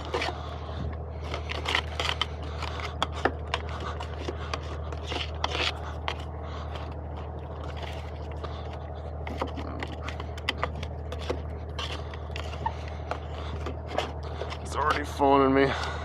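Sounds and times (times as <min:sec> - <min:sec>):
scraping and light clicking: 0:00.0 - 0:15.2
low engine hum: 0:00.0 - 0:16.0.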